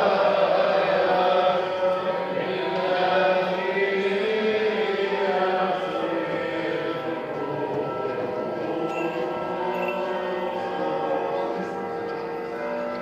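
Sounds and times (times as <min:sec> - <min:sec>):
group singing a chant: 0:00.0 - 0:13.0.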